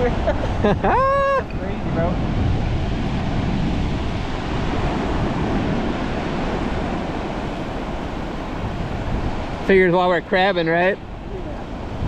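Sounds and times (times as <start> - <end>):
ocean surf on beach: 0.0 - 12.0
wind on microphone: 0.0 - 12.0.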